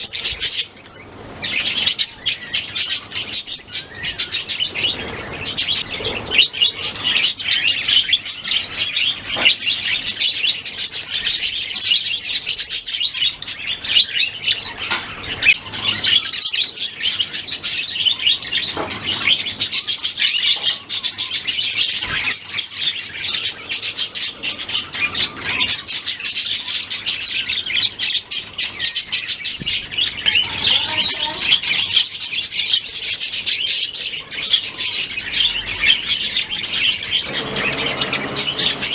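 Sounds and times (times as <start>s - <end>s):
budgerigars chirping: 0.0s - 38.9s.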